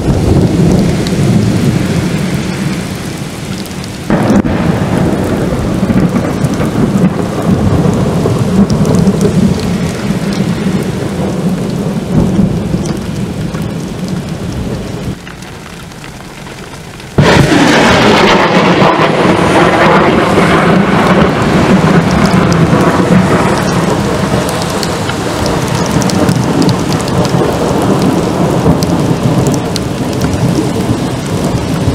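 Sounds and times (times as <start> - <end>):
steady rain: 0.0 - 31.9
thunder rumbling: 0.0 - 31.9.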